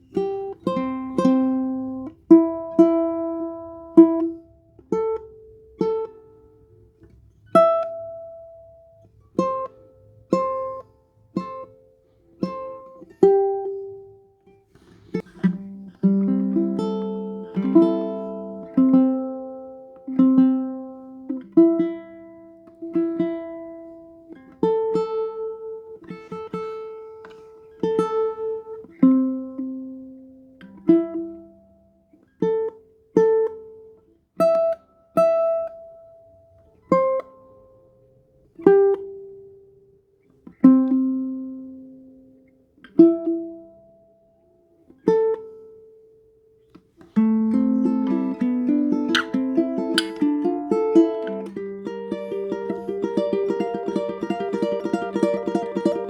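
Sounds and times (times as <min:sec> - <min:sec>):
ukulele plucked slow melody: 0:00.0 - 0:56.0.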